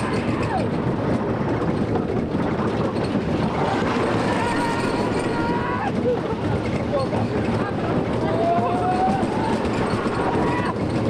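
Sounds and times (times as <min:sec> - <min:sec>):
roller coaster rattling clatter: 0:00.0 - 0:11.0.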